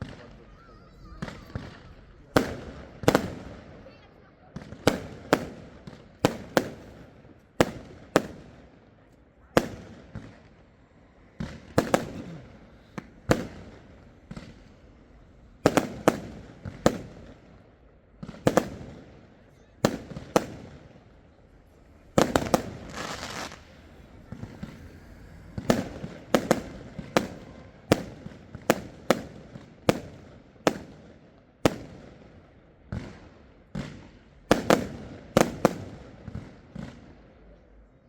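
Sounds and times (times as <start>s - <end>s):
fireworks bangs: 0.0s - 37.2s.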